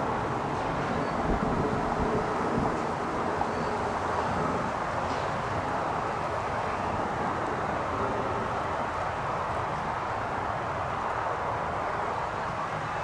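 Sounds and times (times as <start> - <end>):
distant engines and machinery: 0.0 - 13.0.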